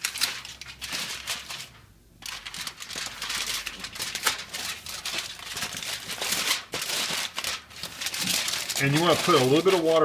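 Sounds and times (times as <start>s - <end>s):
aluminum foil crinkling: 0.0s - 10.0s.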